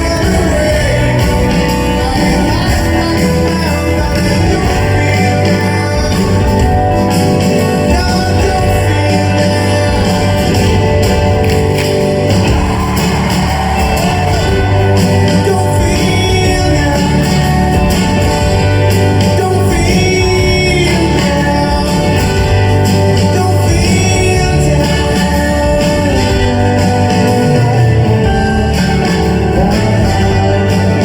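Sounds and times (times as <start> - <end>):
person singing long notes: 0.0 - 31.0
rock band playing live: 0.0 - 31.0.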